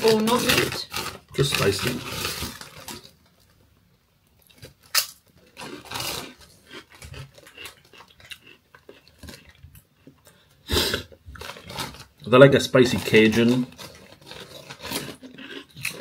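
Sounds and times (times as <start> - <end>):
crisp crunching: 0.0 - 3.6, 4.4 - 9.7, 11.0 - 16.0.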